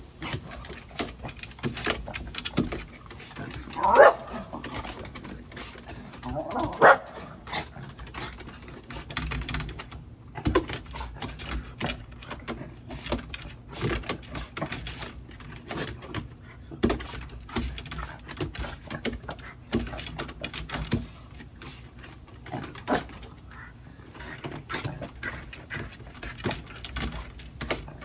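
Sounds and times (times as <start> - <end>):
dog claws clattering on wood: 0.1 - 28.0.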